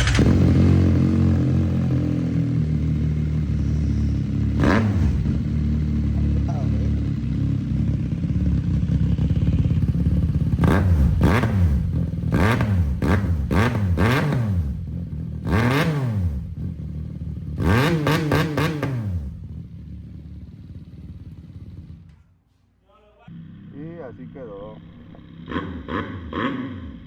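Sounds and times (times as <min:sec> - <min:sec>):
motorcycle engine revving: 0:00.0 - 0:22.2, 0:23.3 - 0:27.0.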